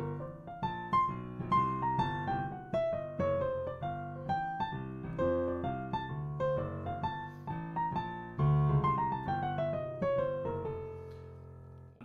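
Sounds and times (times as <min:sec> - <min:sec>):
jazz piano playing: 0:00.0 - 0:12.0.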